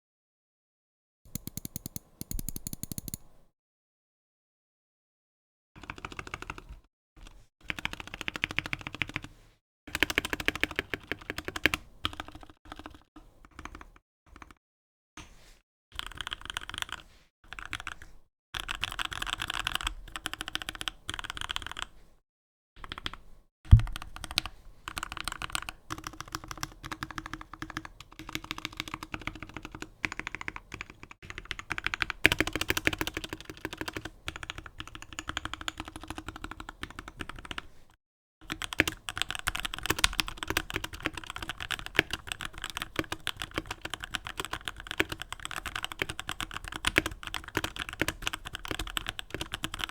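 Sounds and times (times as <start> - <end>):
mechanical keyboard typing: 1.3 - 3.2, 5.8 - 6.8, 7.7 - 9.3, 9.9 - 14.6, 16.0 - 18.0, 18.6 - 21.9, 22.8 - 37.7, 38.4 - 49.9.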